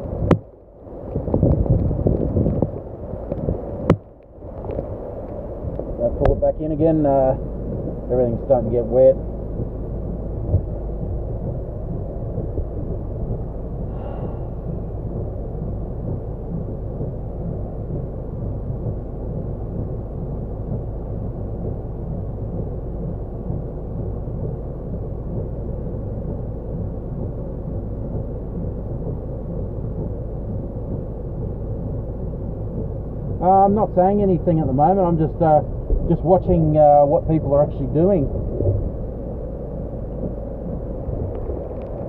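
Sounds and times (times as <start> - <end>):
heavy rain on car: 0.0 - 42.0.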